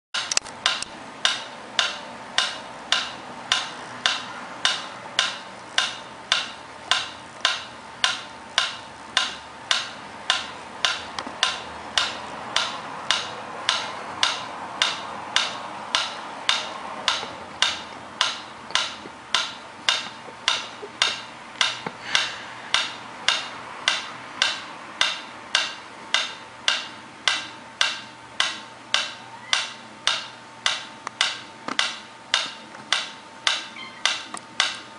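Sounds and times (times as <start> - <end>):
metronome ticking: 0.2 - 34.9.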